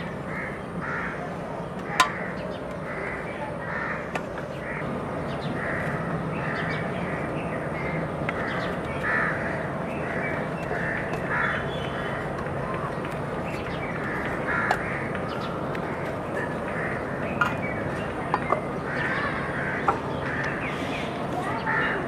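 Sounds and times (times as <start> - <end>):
bird harsh calls: 0.0 - 22.0.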